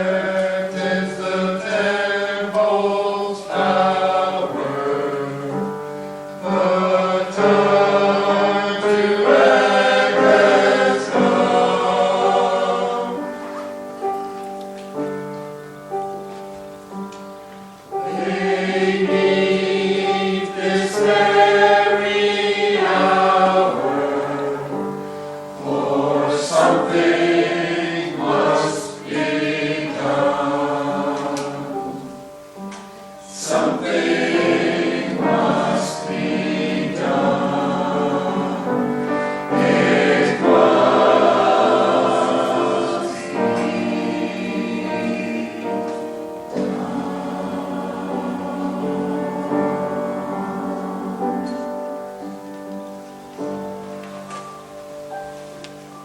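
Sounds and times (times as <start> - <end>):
choir singing with accompaniment: 0.0 - 56.0.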